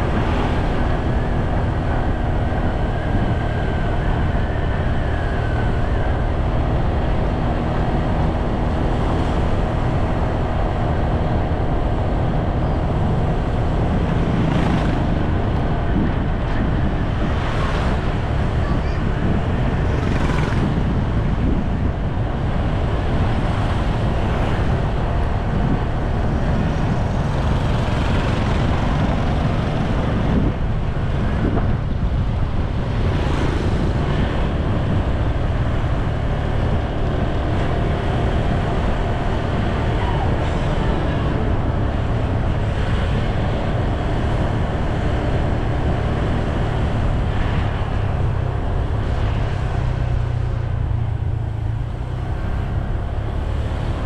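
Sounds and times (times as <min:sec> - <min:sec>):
low vehicle rumble: 0:00.0 - 0:54.0
road noise: 0:00.0 - 0:54.0.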